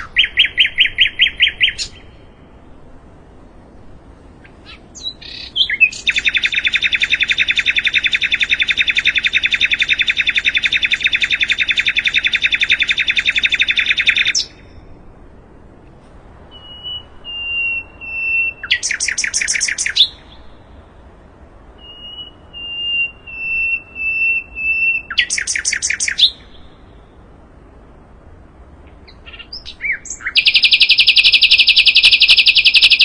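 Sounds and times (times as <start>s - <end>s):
bird singing trills: 0.0s - 2.6s, 4.4s - 15.0s, 16.5s - 20.9s, 21.7s - 27.3s, 28.8s - 33.0s.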